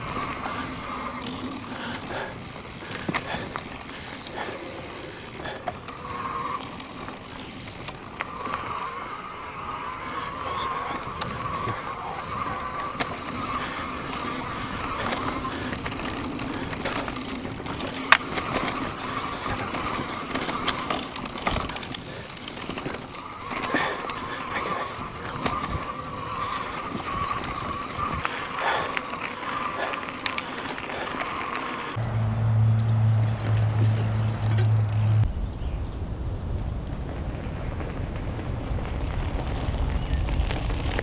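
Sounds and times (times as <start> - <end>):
bike rattling over bumps: 0.0 - 32.0, 32.9 - 41.0
bike tyres rolling on dirt: 0.0 - 41.0.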